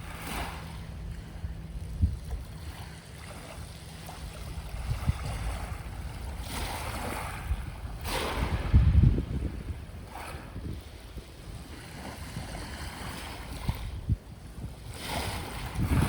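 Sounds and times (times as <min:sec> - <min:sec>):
sea waves breaking on shore: 0:00.0 - 0:16.0
wind rumbling on microphone: 0:00.0 - 0:16.0.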